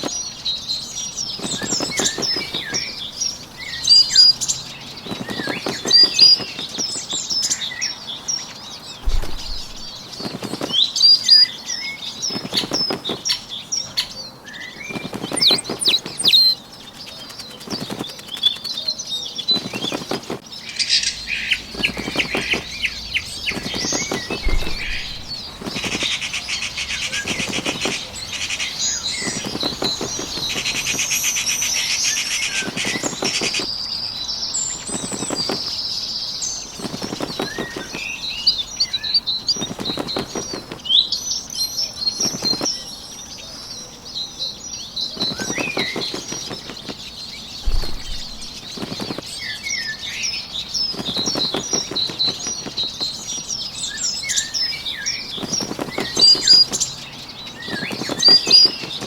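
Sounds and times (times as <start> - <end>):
bird wings flapping: 0.0 - 0.3, 1.0 - 7.7, 9.0 - 20.6, 21.3 - 33.9, 34.5 - 41.3, 42.0 - 42.9, 45.1 - 59.0
birds chirping: 0.0 - 59.0.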